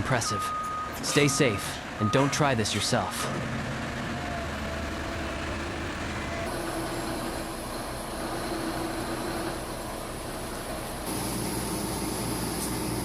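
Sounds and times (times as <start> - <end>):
heavy machinery rumble: 0.5 - 13.0.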